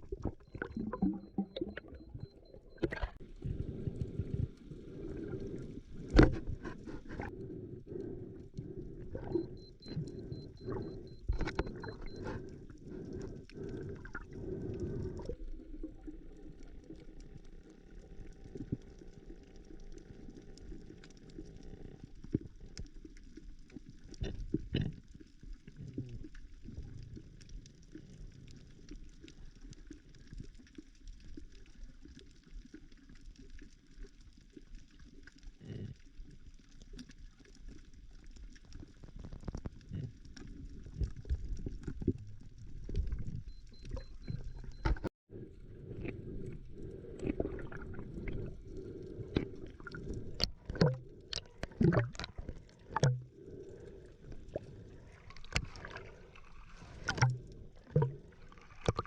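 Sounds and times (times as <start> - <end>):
underwater sloshing and bubbling: 0.0 - 59.0.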